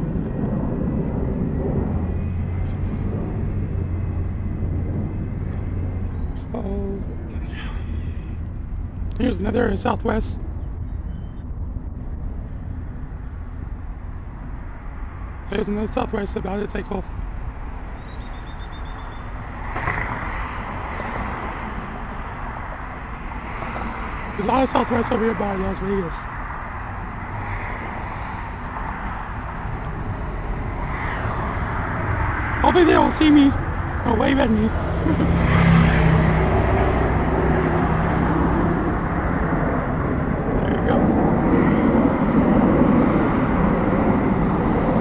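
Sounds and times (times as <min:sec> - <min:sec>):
jet engines rumbling: 0:00.0 - 0:45.0.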